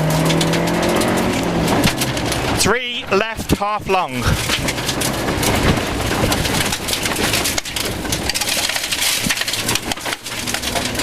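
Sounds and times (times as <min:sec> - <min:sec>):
car engine under load: 0:00.0 - 0:11.0
gravel hitting car underbody: 0:00.0 - 0:11.0.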